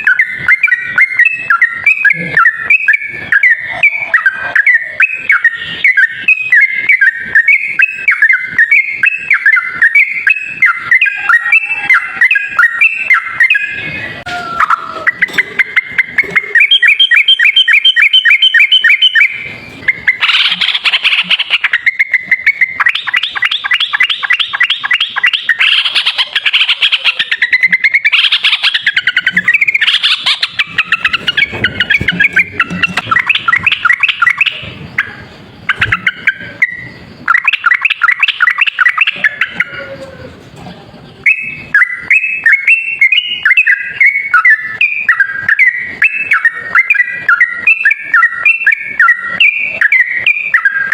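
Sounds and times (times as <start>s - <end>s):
bird singing rapid chattering song: 0.0s - 39.8s, 41.2s - 50.9s.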